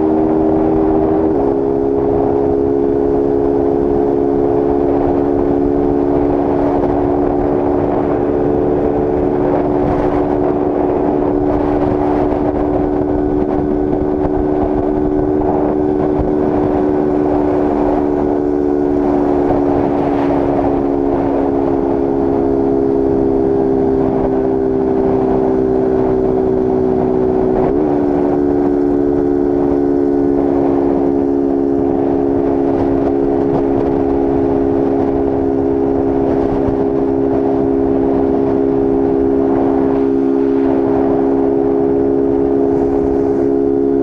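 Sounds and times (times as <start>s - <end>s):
motorcycle engine at high revs: 0.0s - 44.0s
wind rushing: 0.0s - 44.0s.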